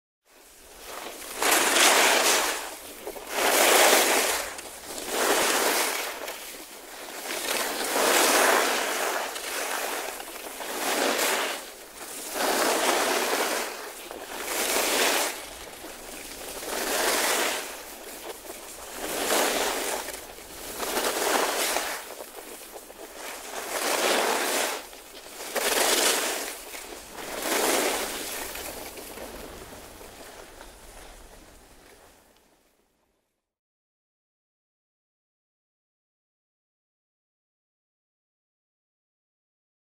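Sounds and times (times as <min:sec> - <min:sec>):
skis swishing on snow: 0:00.3 - 0:32.7.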